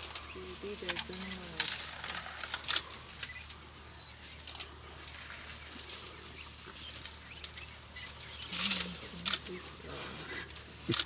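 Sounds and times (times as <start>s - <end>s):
rustles and twig snaps: 0.0s - 11.0s.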